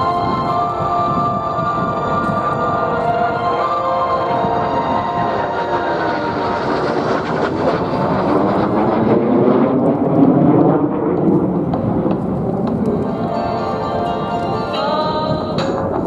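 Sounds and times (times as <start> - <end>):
jet aircraft flying past: 0.0 - 16.0
jet engine whine: 0.0 - 16.0.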